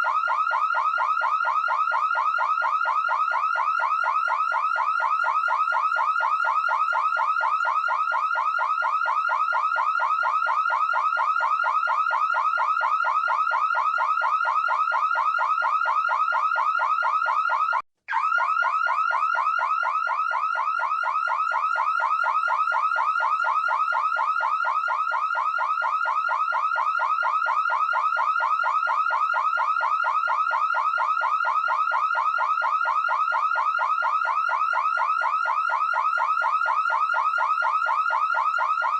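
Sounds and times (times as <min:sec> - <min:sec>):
electronic alarm siren whooping: 0:00.0 - 0:38.9.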